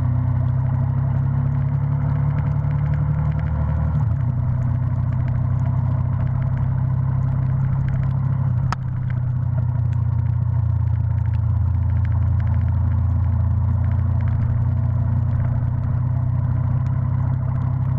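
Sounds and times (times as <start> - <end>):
vehicle engine humming: 0.0 - 17.9.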